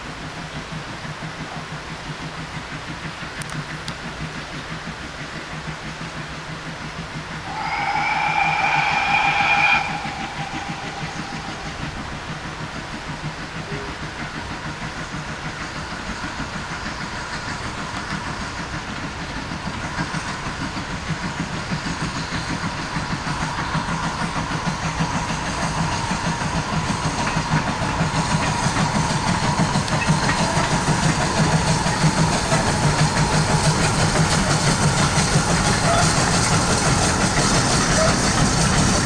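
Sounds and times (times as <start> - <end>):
steam locomotive chuffing: 0.0 - 39.0.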